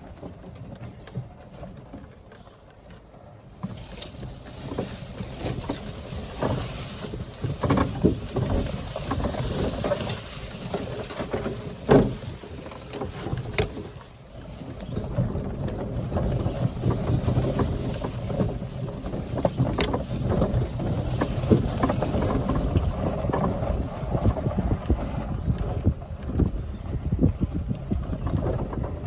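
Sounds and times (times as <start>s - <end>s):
wind on microphone: 3.9s - 29.0s.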